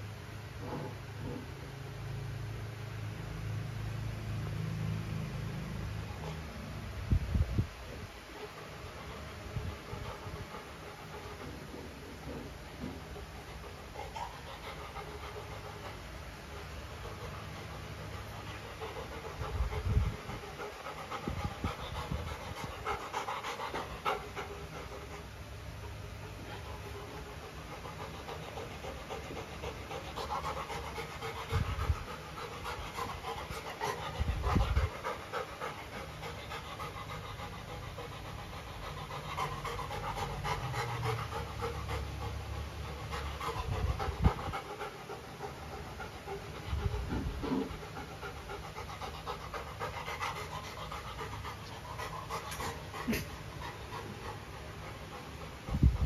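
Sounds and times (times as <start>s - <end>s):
dog panting: 8.3s - 56.0s.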